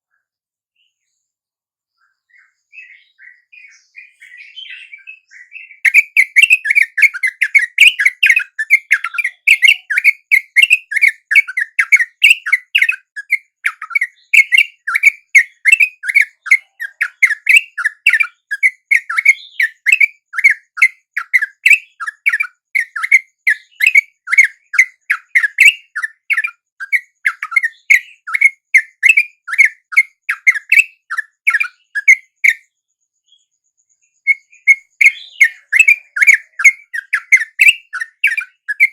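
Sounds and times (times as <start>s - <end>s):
bulbul chattering calls: 2.8s - 32.6s, 34.3s - 38.9s.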